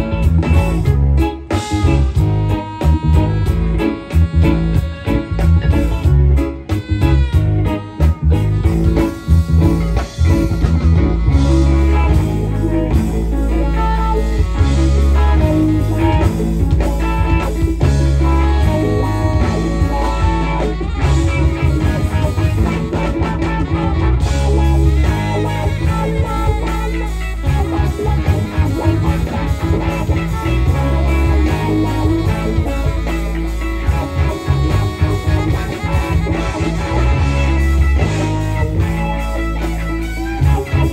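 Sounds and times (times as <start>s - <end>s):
electric guitar: 0.0s - 40.9s
live blues-rock band: 0.0s - 40.9s.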